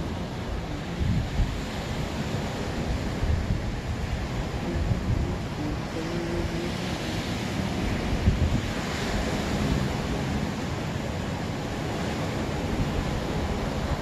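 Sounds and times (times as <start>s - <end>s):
ocean waves breaking: 0.0s - 14.0s
wind buffeting microphone: 0.0s - 14.0s.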